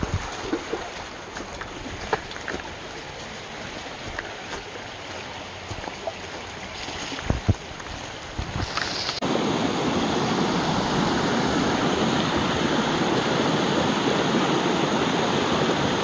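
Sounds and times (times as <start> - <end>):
rushing creek: 0.0 - 16.0.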